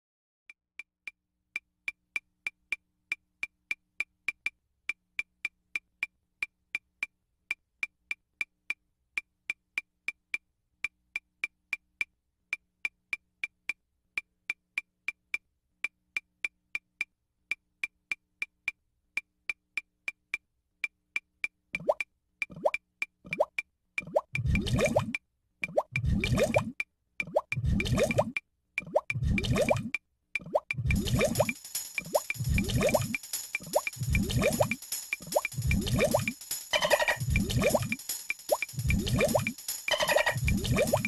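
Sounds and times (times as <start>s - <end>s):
wood block clicks: 0.8s - 41.0s.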